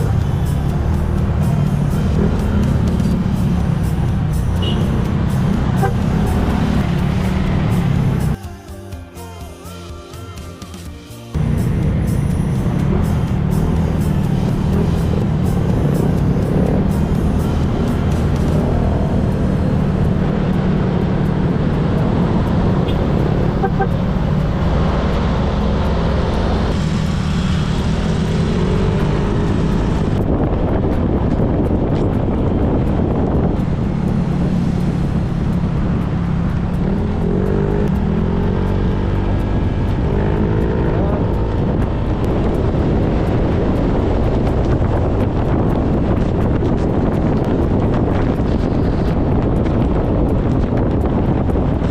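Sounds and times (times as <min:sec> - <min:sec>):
traffic engines rumbling: 0:00.0 - 0:08.4, 0:11.4 - 0:51.9
wind: 0:00.0 - 0:51.9.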